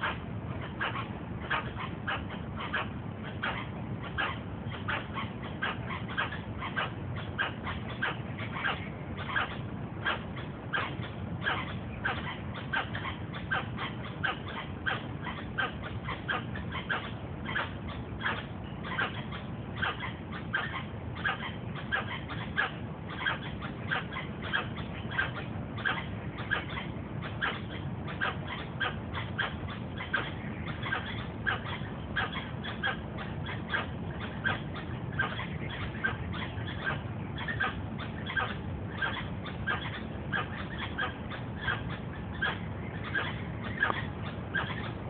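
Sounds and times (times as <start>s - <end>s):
bird calling sharp notes: 0.0s - 45.0s
steady low background noise: 0.0s - 45.0s.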